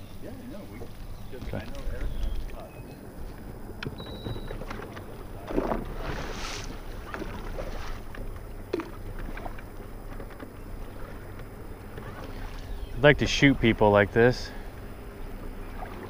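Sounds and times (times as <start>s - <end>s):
small waves lapping against hull: 0.0s - 16.0s.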